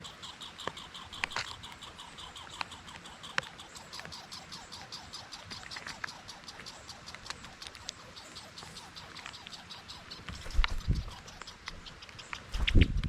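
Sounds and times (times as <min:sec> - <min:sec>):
rapid high chirping: 0:00.0 - 0:13.0
sharp clicks: 0:00.1 - 0:13.0.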